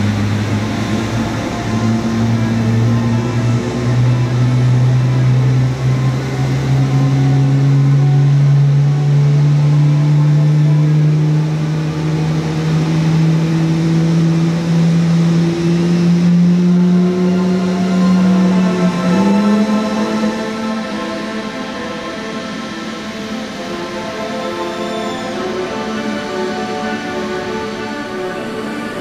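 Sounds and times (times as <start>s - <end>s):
jet engine spooling up whine: 0.0s - 29.0s.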